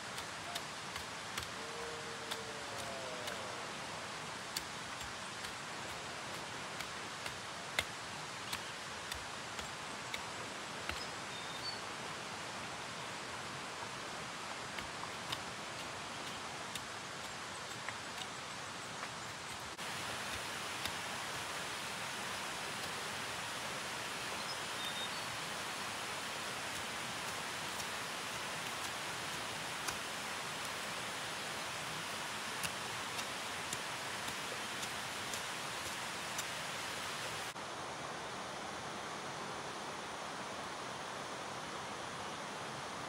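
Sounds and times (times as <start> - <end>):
outdoor background hiss: 0.0 - 43.0.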